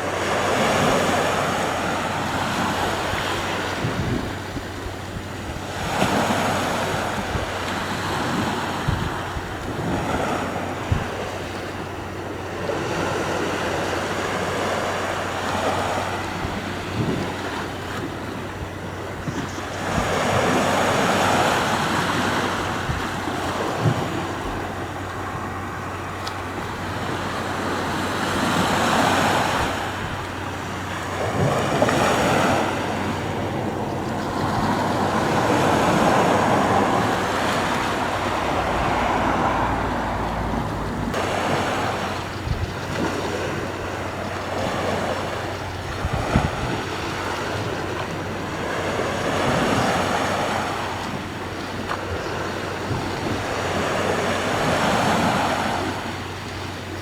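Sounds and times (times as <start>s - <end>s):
sea waves washing onto shore: 0.0s - 57.0s
wind buffeting microphone: 0.0s - 57.0s.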